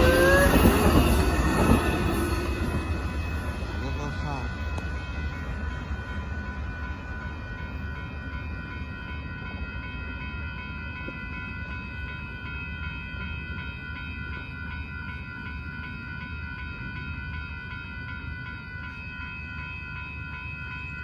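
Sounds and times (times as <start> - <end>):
railroad crossing bell ringing: 0.0 - 21.0.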